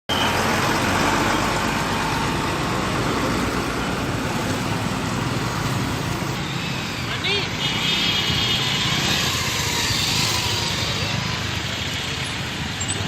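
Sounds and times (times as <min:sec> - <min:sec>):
road traffic: 0:00.1 - 0:13.0
vehicle engine: 0:00.1 - 0:13.0.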